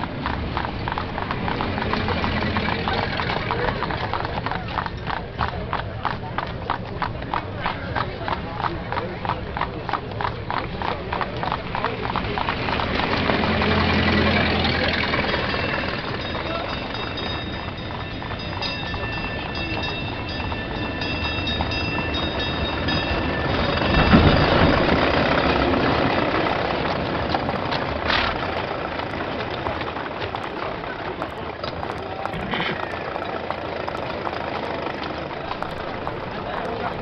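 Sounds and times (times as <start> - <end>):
streetcar wheels rumbling on track: 0.0 - 37.0.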